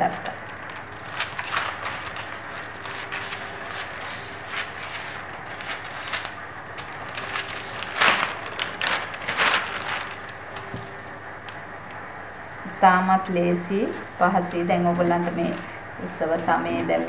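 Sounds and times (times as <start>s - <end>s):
paper crackling and rustling: 0.0s - 11.6s, 13.8s - 17.0s.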